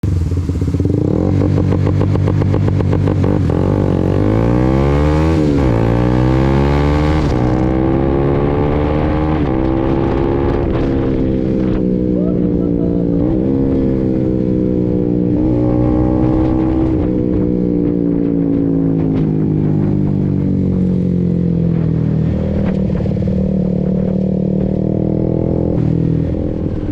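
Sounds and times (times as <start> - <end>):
motorcycle engine revving: 0.0 - 26.9
quickshifted gear upshifts: 0.0 - 26.9.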